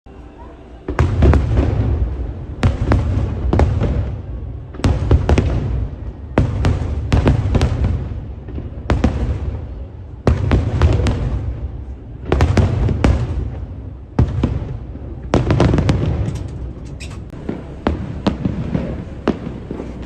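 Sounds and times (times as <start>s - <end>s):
fireworks cracking and booming: 0.8s - 20.0s.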